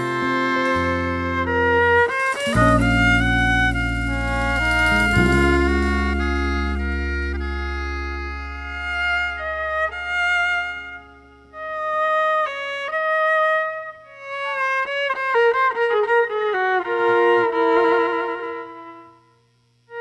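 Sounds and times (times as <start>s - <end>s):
violin playing a waltz: 0.0s - 19.2s.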